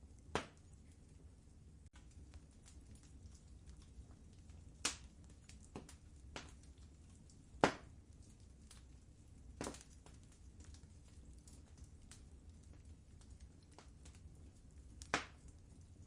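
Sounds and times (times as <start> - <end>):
fire crackling: 0.0 - 16.0
sharp pops from fire: 0.2 - 0.8, 1.9 - 16.0.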